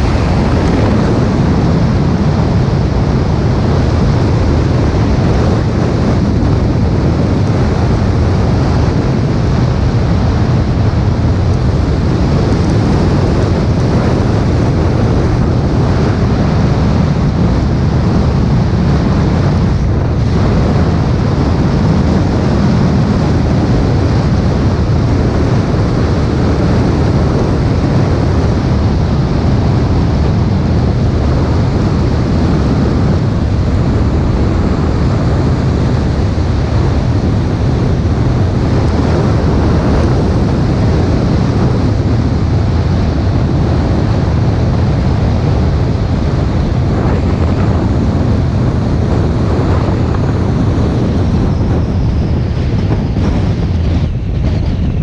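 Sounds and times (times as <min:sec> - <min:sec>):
car tyre and road noise: 0:00.0 - 0:55.0
wind on microphone: 0:00.0 - 0:55.0.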